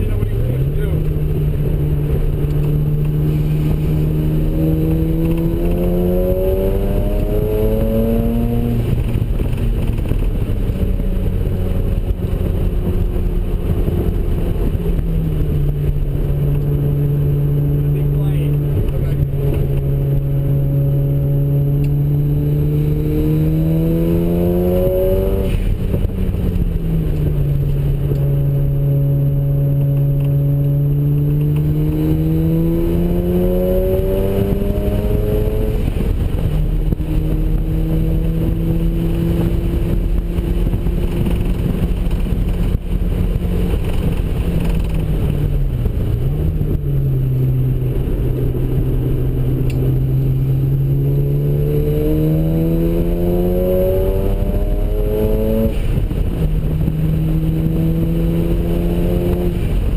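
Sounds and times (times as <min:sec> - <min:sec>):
rotary engine revving: 0:00.0 - 0:59.9.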